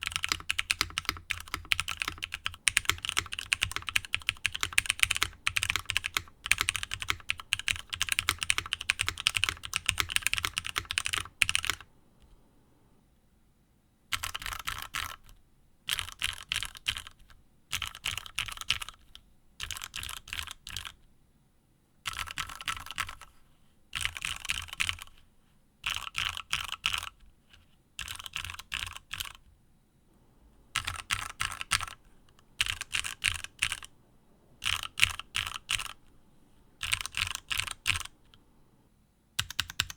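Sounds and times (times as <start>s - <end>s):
typing on mechanical keyboard: 0.0s - 11.9s, 14.1s - 21.0s, 22.1s - 23.4s, 24.0s - 25.2s, 25.8s - 27.2s, 28.0s - 29.4s, 30.7s - 38.4s, 39.4s - 39.9s.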